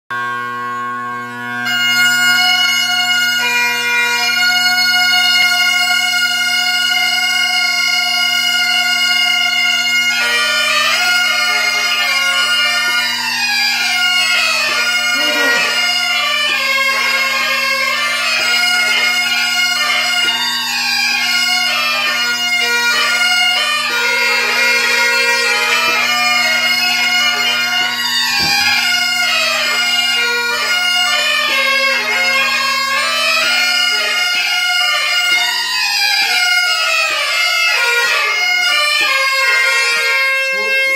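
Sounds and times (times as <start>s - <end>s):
bagpipes playing a tune: 0.1s - 40.9s.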